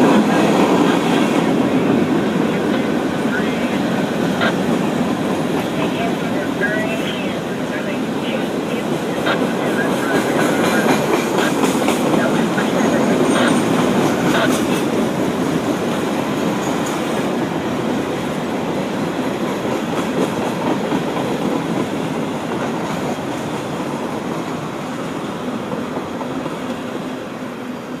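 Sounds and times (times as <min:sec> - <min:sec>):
freight train wheels clattering: 0:00.0 - 0:27.1.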